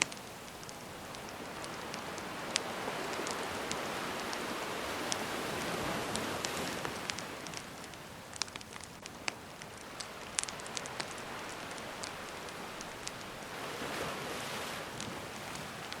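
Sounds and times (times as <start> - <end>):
crackling wood campfire: 0.0 - 16.0
sea waves washing ashore: 0.0 - 16.0.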